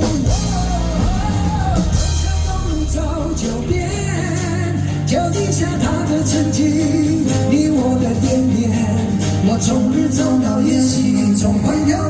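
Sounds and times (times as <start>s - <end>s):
bass: 0.0s - 12.0s
drums: 0.0s - 12.0s
live pop-rock band music: 0.0s - 12.0s
person singing: 0.0s - 12.0s.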